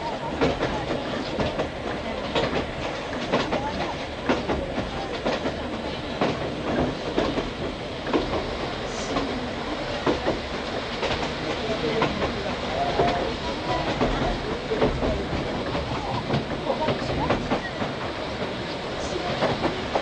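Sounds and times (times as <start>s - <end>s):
train coach rumble: 0.0s - 20.0s.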